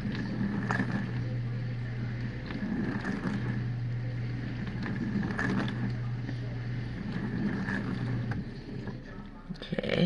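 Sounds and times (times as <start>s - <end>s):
dishwasher pump motor humming: 0.0s - 9.6s.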